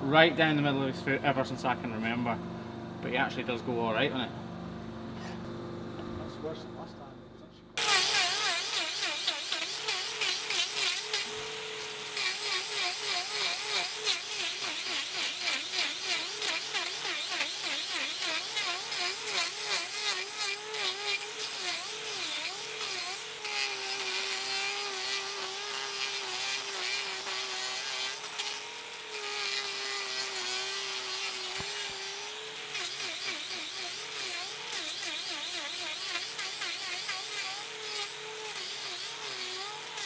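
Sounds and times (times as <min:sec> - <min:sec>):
angle grinder grinding hoof: 0:07.8 - 0:40.0.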